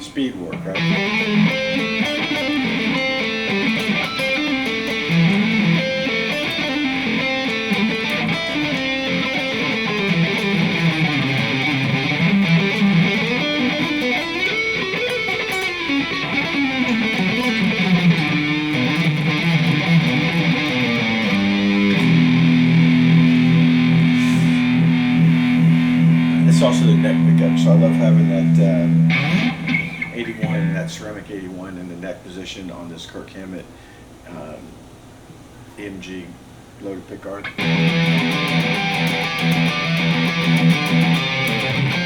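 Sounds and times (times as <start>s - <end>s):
electric guitar fast single notes: 0.8s - 31.0s, 37.6s - 42.0s.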